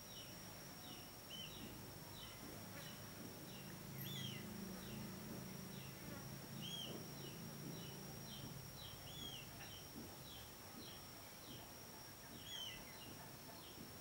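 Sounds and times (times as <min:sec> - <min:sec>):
faint high whine: 0:00.0 - 0:14.0
bird chicks peeping: 0:00.1 - 0:11.6, 0:12.3 - 0:13.8.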